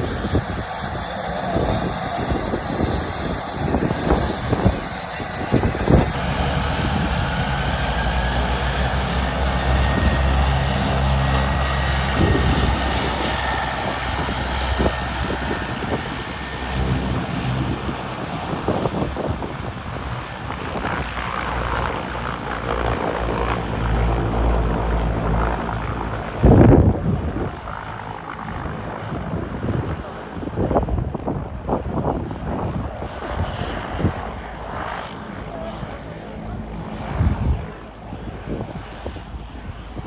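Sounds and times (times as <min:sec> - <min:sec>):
propeller airplane engines drone: 0:00.0 - 0:40.0.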